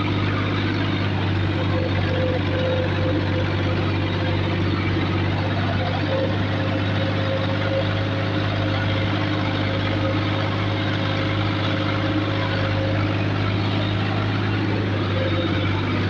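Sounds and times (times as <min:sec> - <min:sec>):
tractor engine running steadily: 0:00.0 - 0:16.0.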